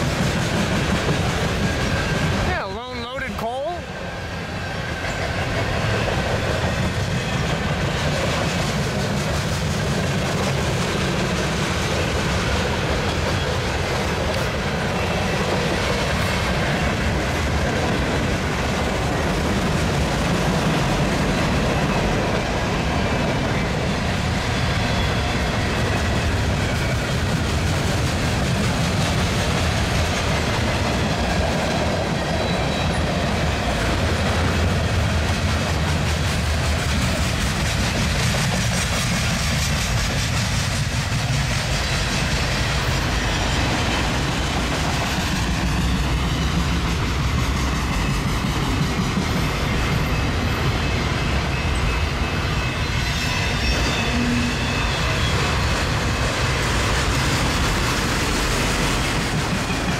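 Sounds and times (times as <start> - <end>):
freight train cars rumbling past: 0.0 - 59.9.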